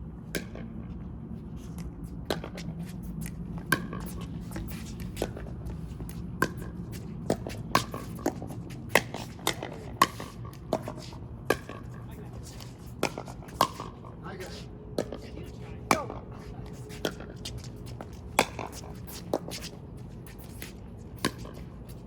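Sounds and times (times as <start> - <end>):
paddles striking a pickleball: 1.8 - 15.2, 15.8 - 22.0.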